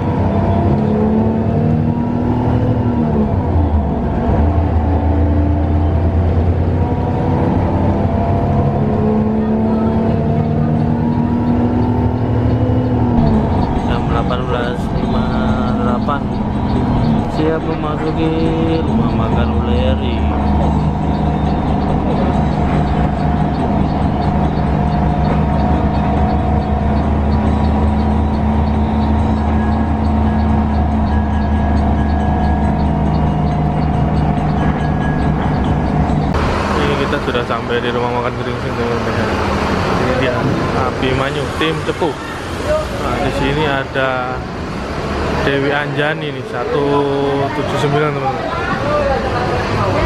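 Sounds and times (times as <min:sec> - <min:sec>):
bus diesel engine drone: 0:00.0 - 0:50.0.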